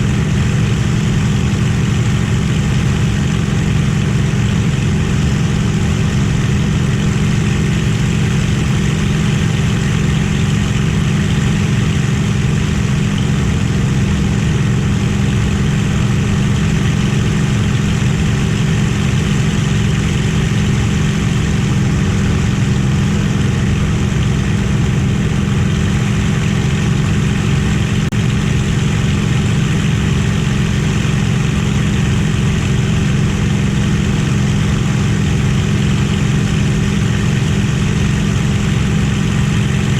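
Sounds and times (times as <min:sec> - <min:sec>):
aircraft piston engine drone: 0:00.0 - 0:39.9.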